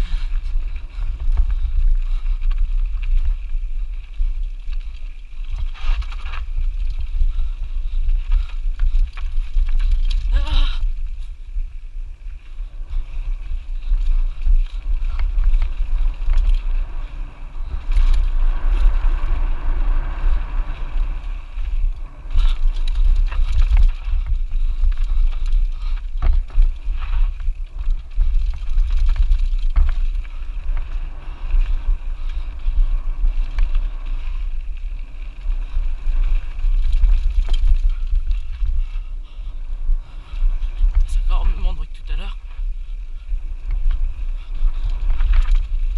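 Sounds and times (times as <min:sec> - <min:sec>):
mountain bike rattling: 0:00.0 - 0:45.9
wind buffeting microphone: 0:00.0 - 0:45.9.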